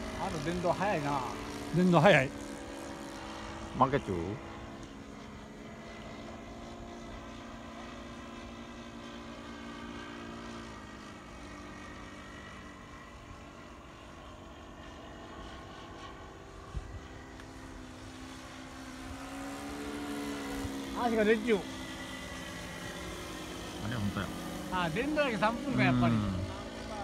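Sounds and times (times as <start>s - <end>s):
model airplane engines droning: 0.0s - 27.0s.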